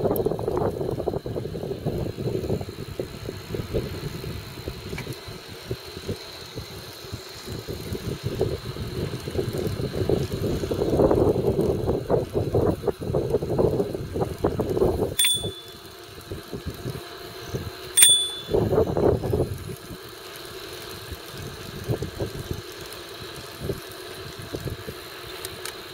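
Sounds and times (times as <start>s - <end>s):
bicycle road rumble: 0.0s - 25.9s.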